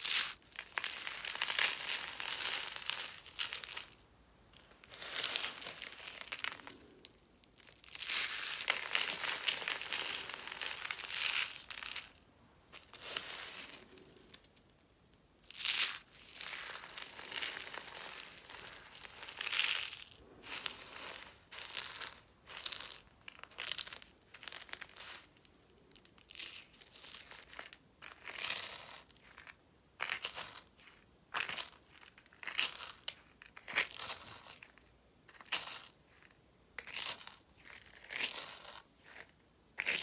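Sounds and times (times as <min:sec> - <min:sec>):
dry soap crunching: 0:00.0 - 0:04.0, 0:04.9 - 0:12.2, 0:15.5 - 0:40.0.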